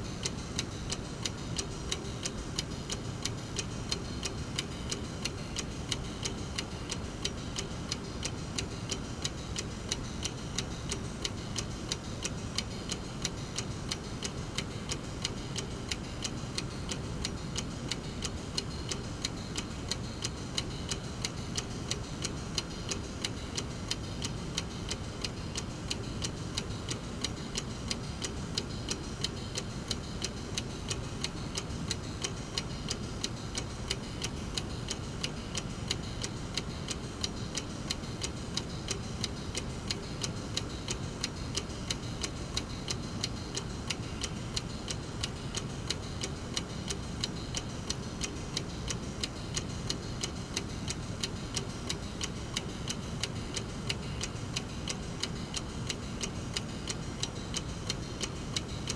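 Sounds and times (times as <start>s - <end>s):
mechanical clock ticking: 0.0s - 58.9s.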